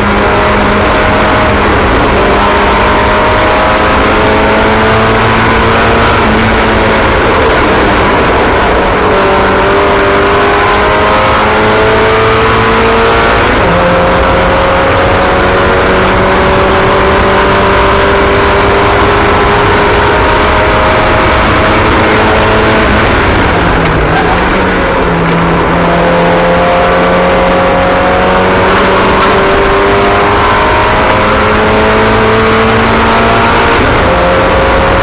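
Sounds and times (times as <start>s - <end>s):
race car engines revving: 0.0s - 35.0s.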